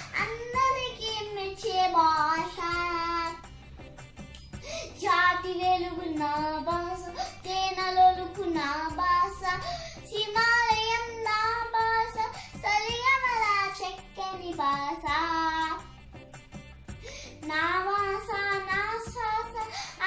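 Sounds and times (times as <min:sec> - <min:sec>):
girl singing: 0:00.0 - 0:03.6, 0:04.6 - 0:16.0, 0:17.0 - 0:20.0.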